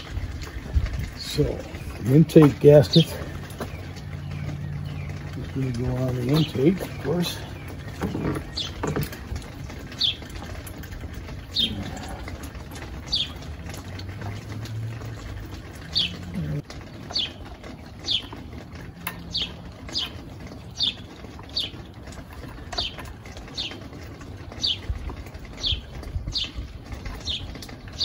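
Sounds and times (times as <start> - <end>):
bird chirping: 1.1 - 28.0.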